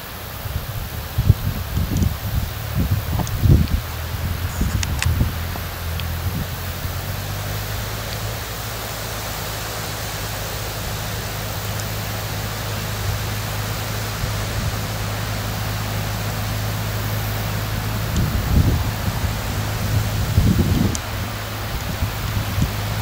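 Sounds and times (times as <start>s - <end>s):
steady rushing hiss: 0.0s - 23.0s
tractor engine running: 0.0s - 23.0s.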